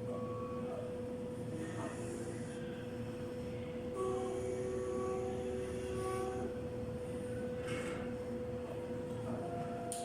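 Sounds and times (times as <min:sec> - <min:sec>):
lower machine tone: 0:00.0 - 0:10.0
machine whine: 0:00.0 - 0:10.0.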